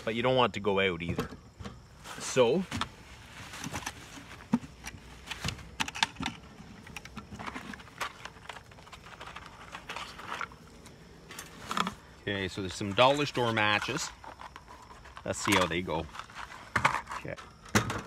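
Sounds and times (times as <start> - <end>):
rummaging in wooden box: 1.0 - 18.0.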